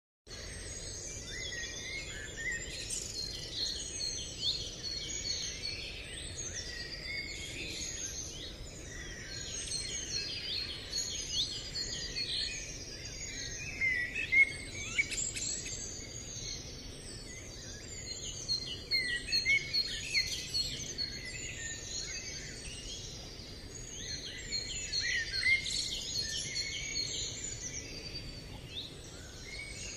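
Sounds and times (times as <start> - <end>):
faint steady hiss: 0.3 - 29.9
songbirds chirping and whistling: 0.3 - 29.9.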